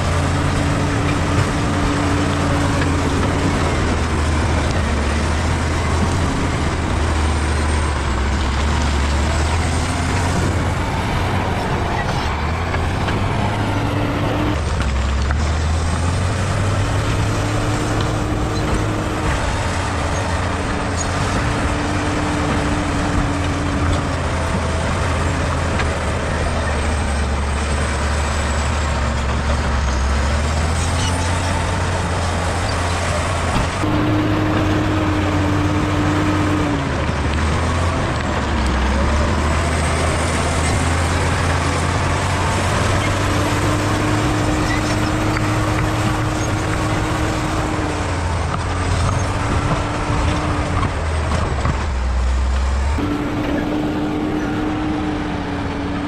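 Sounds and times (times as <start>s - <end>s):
diesel engine droning under load: 0.0s - 56.0s.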